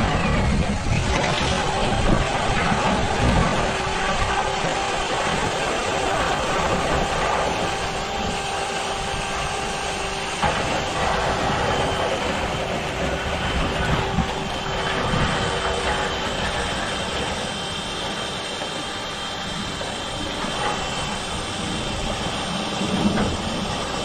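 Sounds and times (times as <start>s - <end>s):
machine motor humming: 0.0s - 24.0s
steady rushing noise: 0.0s - 24.0s.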